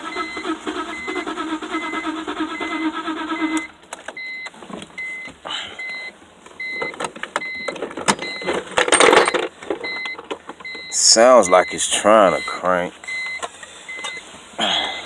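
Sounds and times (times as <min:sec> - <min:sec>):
car engine cranking: 0:00.0 - 0:15.0
clunks: 0:00.0 - 0:15.0
dashboard warning chime beeping: 0:00.0 - 0:15.0.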